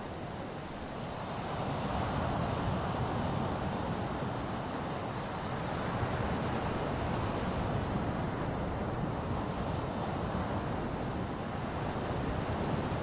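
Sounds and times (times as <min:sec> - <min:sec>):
waves washing on shore: 0:00.0 - 0:13.0.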